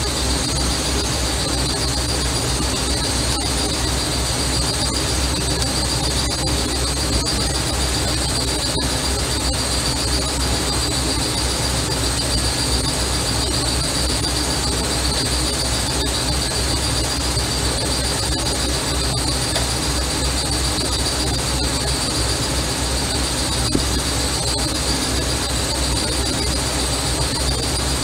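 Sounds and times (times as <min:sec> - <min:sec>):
high-pitched whine: 0:00.0 - 0:28.0.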